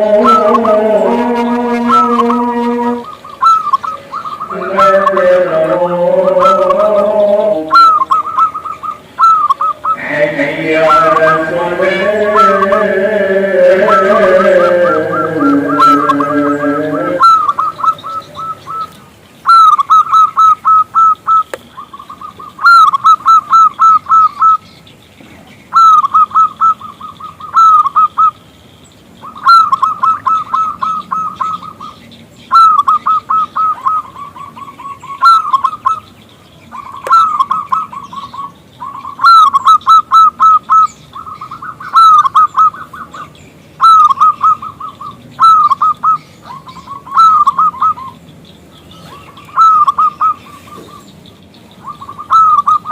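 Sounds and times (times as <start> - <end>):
dove cooing: 0.0 - 24.7, 25.4 - 28.4, 29.2 - 36.1, 36.7 - 48.2, 48.9 - 51.1, 51.7 - 52.9.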